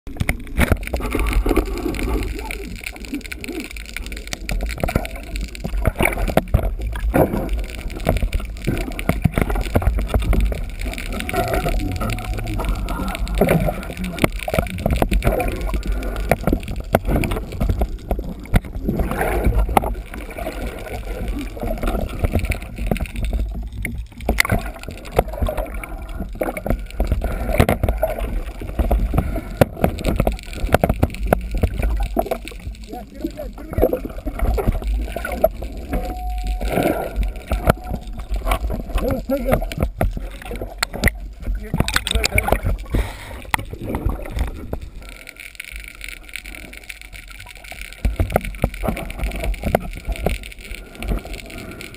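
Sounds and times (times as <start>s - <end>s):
clicks and crackles: 0.1s - 51.9s
underwater rumble of moving water: 0.1s - 51.9s.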